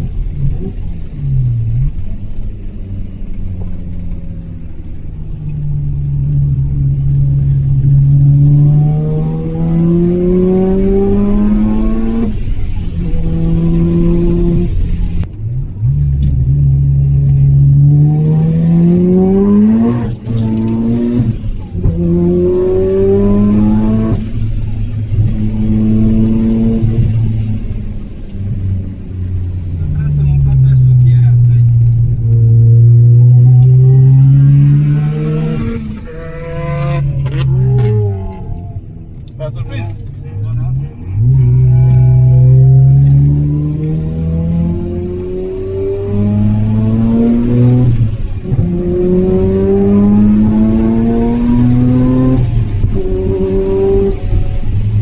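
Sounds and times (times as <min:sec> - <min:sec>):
rotary engine accelerating: 0:00.0 - 0:55.0.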